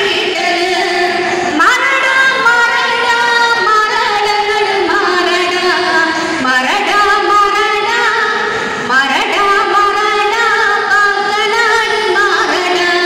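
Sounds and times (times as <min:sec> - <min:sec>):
women singing folk song: 0:00.0 - 0:13.0.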